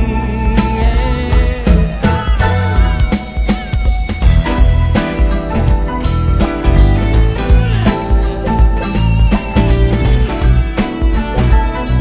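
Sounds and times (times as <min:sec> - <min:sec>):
drum beat: 0:00.0 - 0:12.0
rock guitar: 0:00.0 - 0:12.0.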